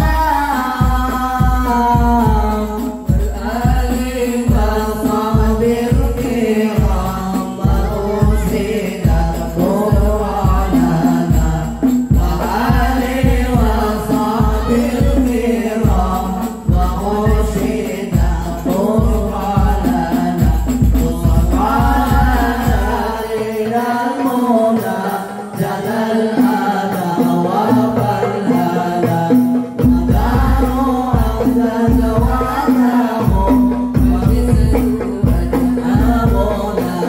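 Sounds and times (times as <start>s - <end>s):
frame drums with deep bass hits: 0.0s - 23.2s, 27.8s - 37.0s
voices singing through loudspeakers: 0.0s - 37.0s.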